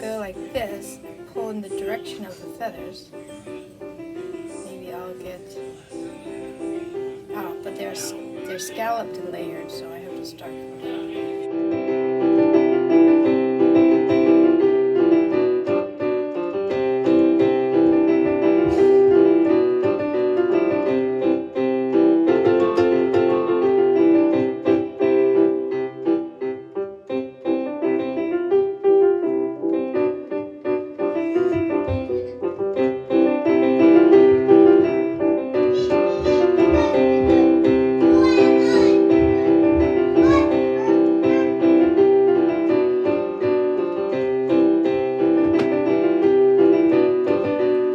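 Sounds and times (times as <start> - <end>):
solo piano music: 0.0 - 47.9.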